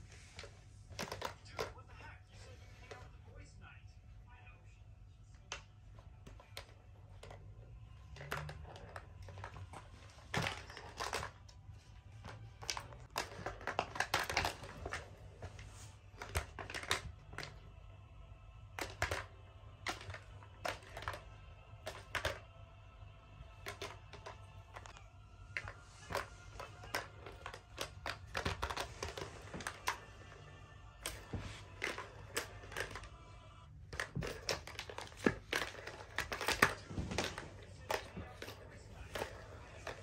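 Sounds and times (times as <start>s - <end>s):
cat toy ball clicking and rattling: 0.3s - 2.0s, 5.4s - 17.6s, 18.7s - 22.5s, 23.5s - 30.3s, 30.9s - 33.1s, 33.8s - 40.0s.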